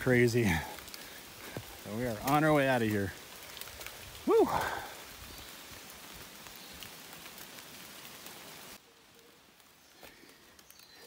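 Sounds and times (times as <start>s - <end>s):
heavy rain on foliage: 0.0s - 11.0s.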